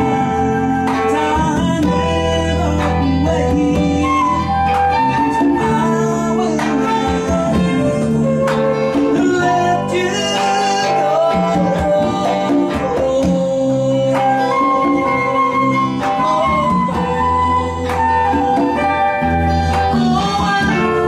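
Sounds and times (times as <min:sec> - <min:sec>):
acoustic guitar: 0:00.0 - 0:21.0
electric bass: 0:00.0 - 0:21.0
held gliding melody line: 0:00.0 - 0:21.0.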